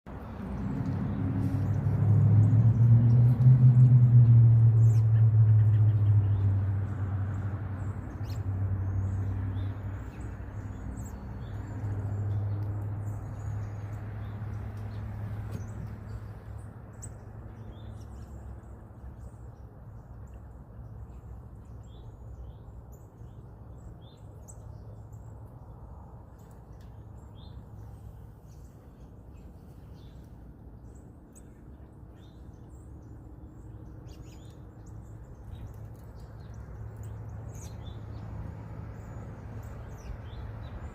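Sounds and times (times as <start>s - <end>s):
small birds chirping: 0.1s - 3.4s, 4.5s - 40.9s.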